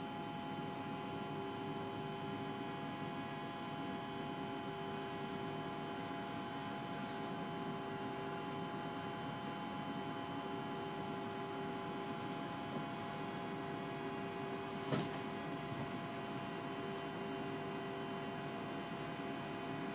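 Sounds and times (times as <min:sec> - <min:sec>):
steady hum in train cab: 0:00.0 - 0:19.9.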